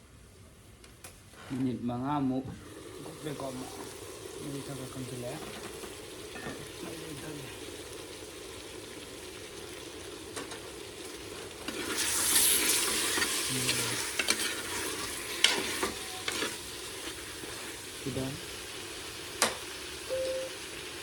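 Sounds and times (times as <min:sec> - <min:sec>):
meat sizzling in a pan: 0:02.6 - 0:21.0.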